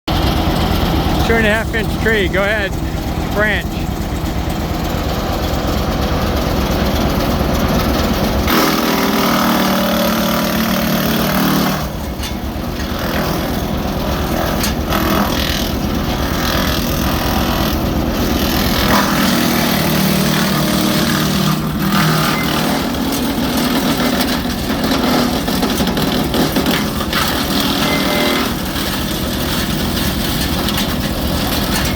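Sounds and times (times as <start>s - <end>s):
engine drone: 0.1s - 31.9s
wood chipper chipping branches: 0.1s - 31.9s.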